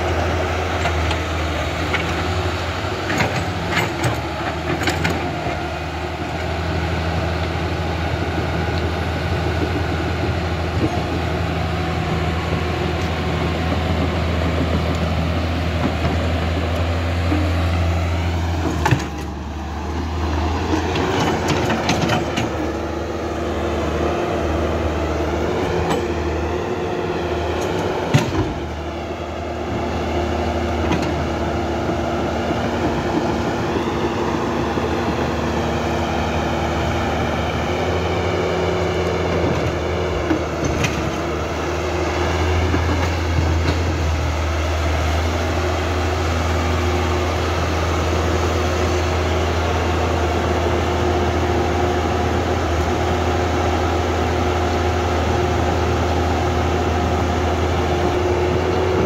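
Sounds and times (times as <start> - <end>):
electric motors humming and whining: 0.0 - 59.0.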